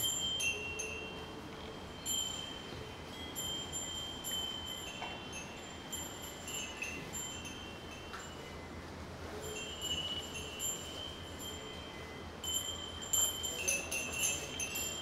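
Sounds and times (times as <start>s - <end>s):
small metal bells tinkling: 0.0s - 8.8s, 9.4s - 15.0s.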